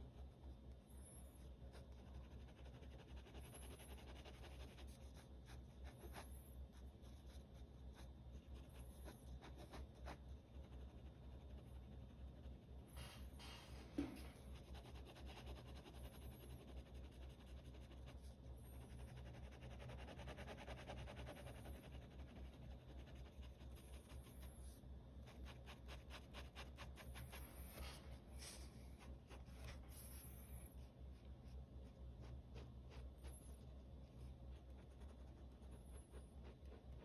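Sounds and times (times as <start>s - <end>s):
steady low hum: 0.0s - 37.0s
pen nib scratching on paper: 1.2s - 37.0s.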